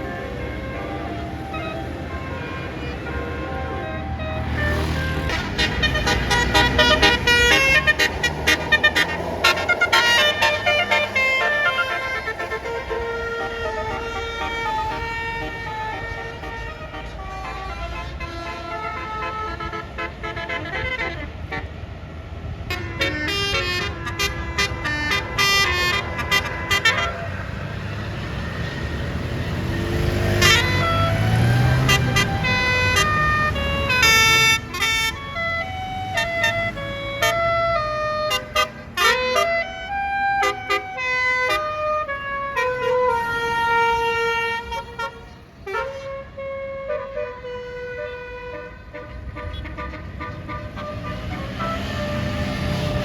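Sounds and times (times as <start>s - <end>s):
bus horn playing stepped tune: 0.0s - 21.8s, 22.6s - 27.8s, 30.3s - 53.0s
bus engine running low: 0.0s - 53.0s.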